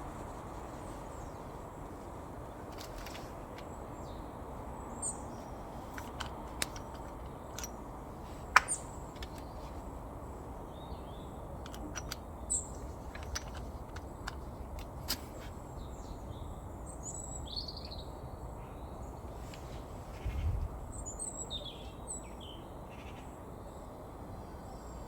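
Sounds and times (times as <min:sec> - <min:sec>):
small birds chirping: 0:00.0 - 0:25.0
steady background noise: 0:00.0 - 0:25.0.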